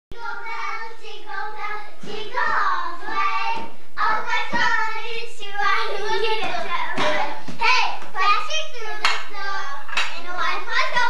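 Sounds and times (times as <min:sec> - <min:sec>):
young children's voices: 0:00.2 - 0:11.0.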